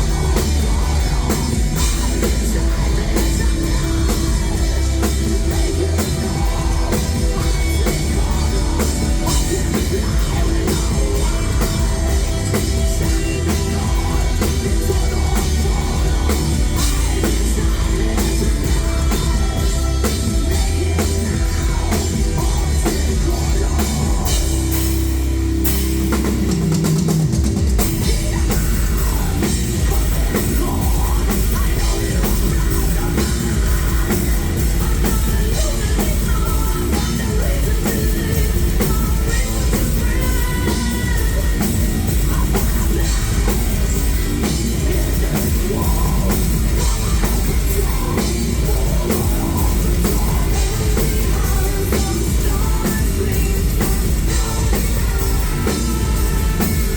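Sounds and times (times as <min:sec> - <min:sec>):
heavy metal band playing: 0:00.0 - 0:56.9.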